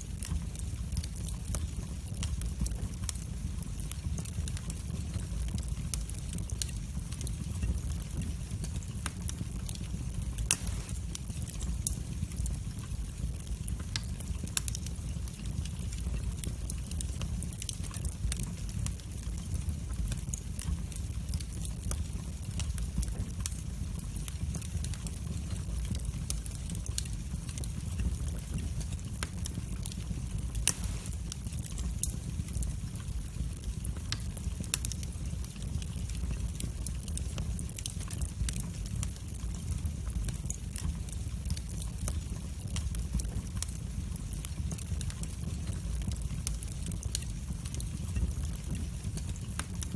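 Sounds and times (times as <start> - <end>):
fire crackling and popping: 0.0 - 49.9
fire flames rumbling: 0.0 - 49.9.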